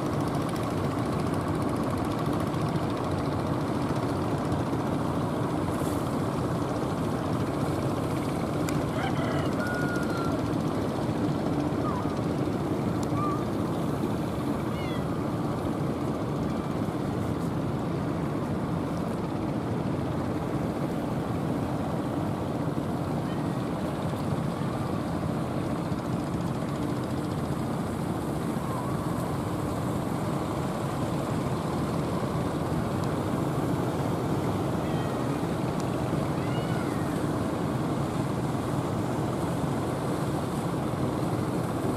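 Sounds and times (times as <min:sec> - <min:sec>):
boat engines droning: 0:00.0 - 0:41.9.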